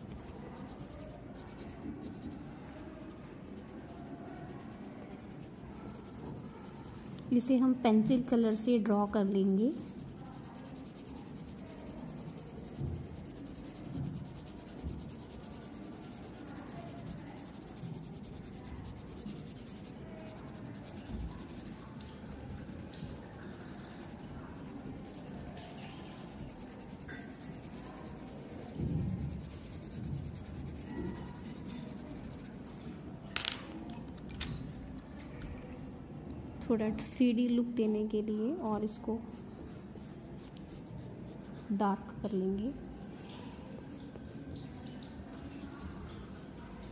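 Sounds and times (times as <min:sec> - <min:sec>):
pencil scratching on paper: 0:00.0 - 0:08.2, 0:09.5 - 0:33.1, 0:38.2 - 0:42.1, 0:42.9 - 0:46.9.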